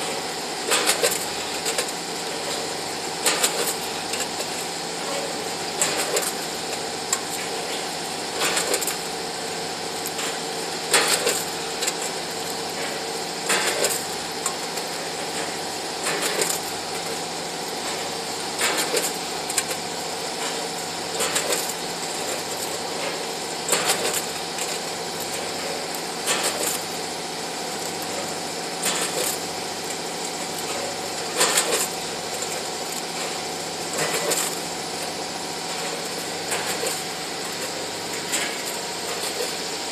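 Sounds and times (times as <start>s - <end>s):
machine clatter: 0.0s - 39.9s.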